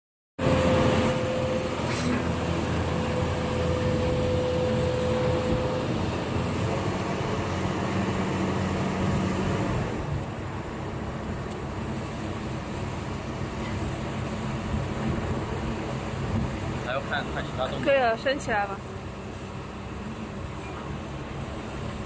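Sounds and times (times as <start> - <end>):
heavy engine rumbling: 0.4 - 22.0.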